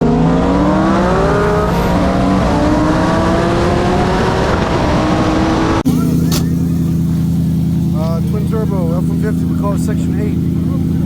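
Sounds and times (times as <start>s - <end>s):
cars accelerating hard: 0.0s - 11.0s.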